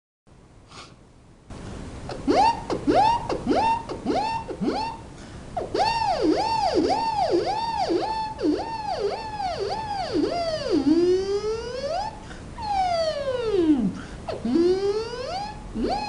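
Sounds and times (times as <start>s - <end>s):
beatboxed police siren: 2.1s - 16.0s.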